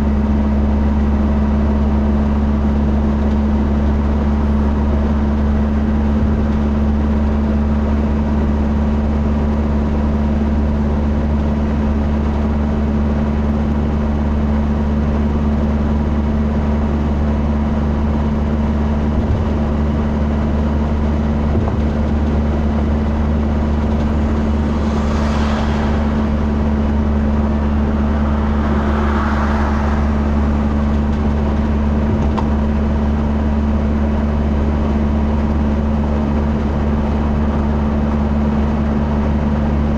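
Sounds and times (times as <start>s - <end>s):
vehicle motor drone from inside: 0.0s - 39.9s.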